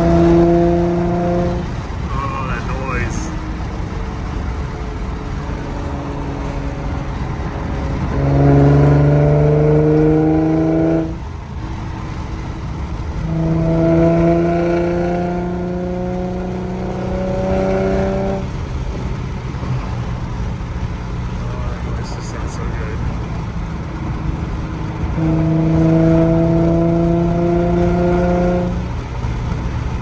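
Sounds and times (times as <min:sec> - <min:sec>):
car exhaust accelerating: 0:00.0 - 0:30.0.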